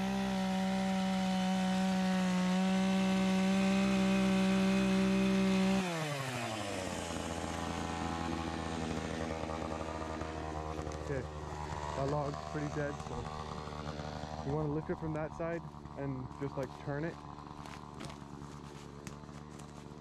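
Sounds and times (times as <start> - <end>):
chainsaw engine revving and idling: 0.0 - 20.0.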